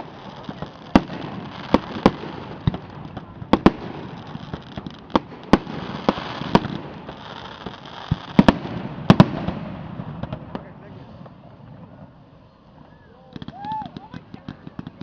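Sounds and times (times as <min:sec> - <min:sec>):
firework bangs: 0:00.0 - 0:12.3.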